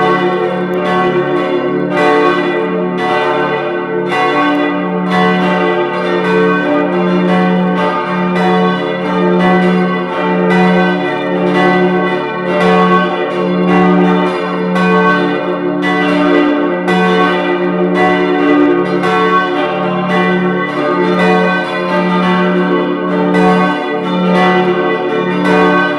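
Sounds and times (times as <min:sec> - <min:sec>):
church bells ringing: 0:00.0 - 0:25.9.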